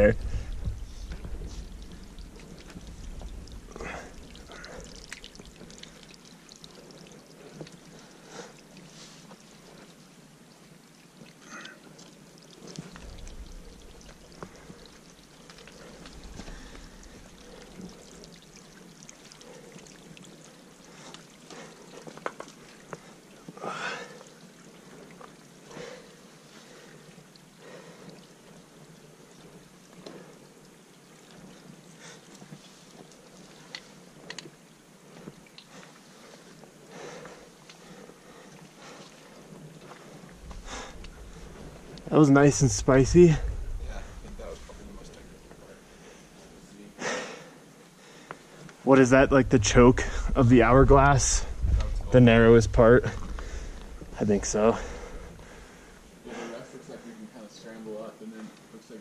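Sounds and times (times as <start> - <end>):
low steady hiss: 0.0 - 59.0.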